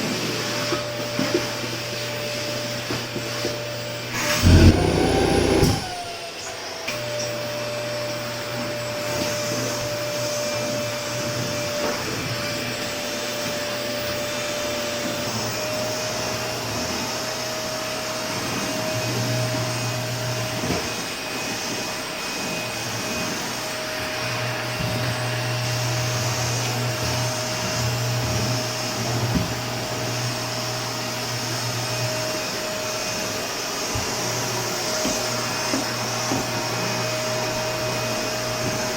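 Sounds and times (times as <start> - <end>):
vacuum cleaner running: 0.2 - 38.9.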